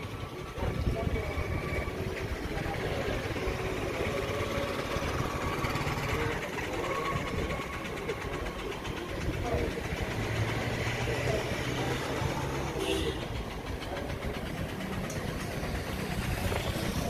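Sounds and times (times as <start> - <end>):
faint voices: 0.0 - 17.0
vehicle engines idling: 0.0 - 17.0.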